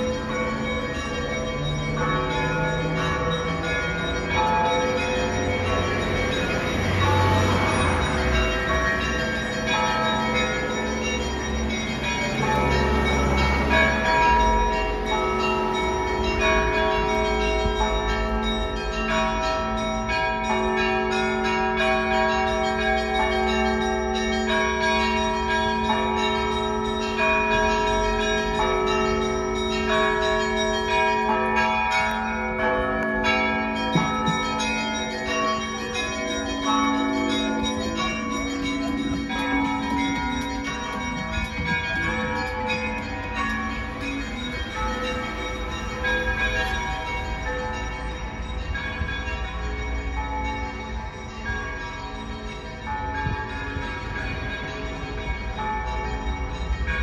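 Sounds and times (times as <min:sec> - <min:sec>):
church bells ringing a peal: 0:00.0 - 0:57.0.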